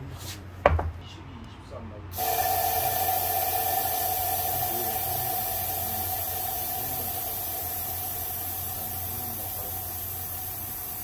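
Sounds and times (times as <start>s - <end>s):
steady hum: 2.0s - 11.0s
steady hissing noise: 2.1s - 11.0s.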